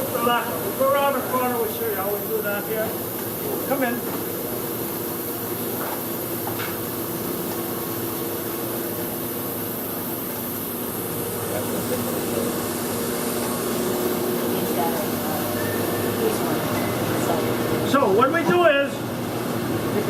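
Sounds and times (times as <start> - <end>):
workshop machinery humming: 0.0 - 20.0.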